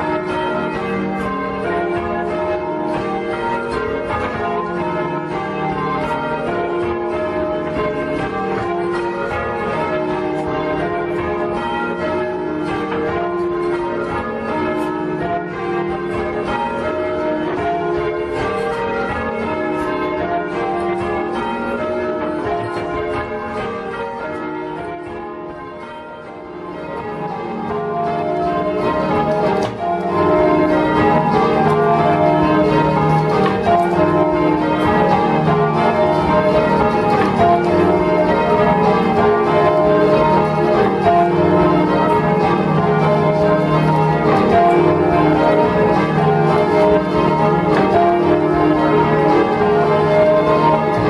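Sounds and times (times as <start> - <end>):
church bells ringing: 0.0 - 51.0.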